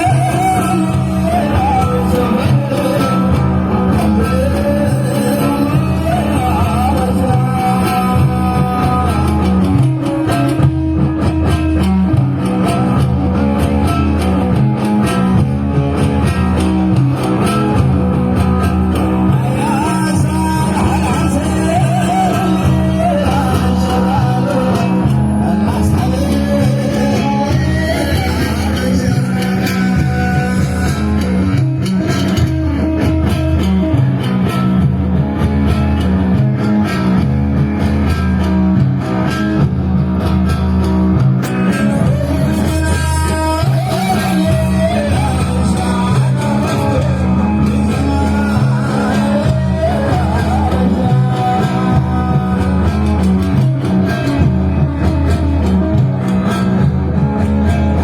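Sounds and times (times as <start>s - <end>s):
electric guitar melody: 0.0s - 58.0s
repeating bass line: 0.0s - 58.0s.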